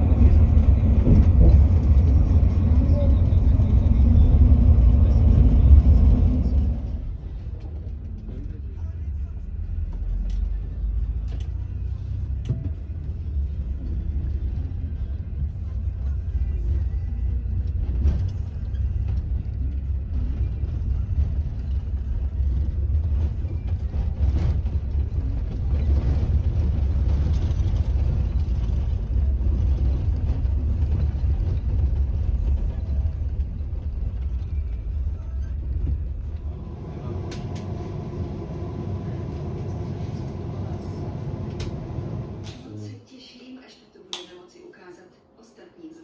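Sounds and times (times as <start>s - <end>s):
tram rumbling inside: 0.0s - 42.8s.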